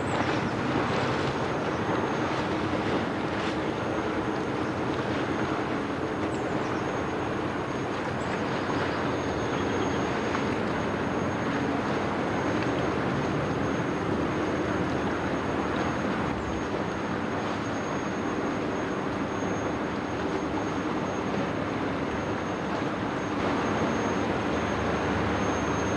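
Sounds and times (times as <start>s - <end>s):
ship diesel engine drone: 0.0s - 25.9s.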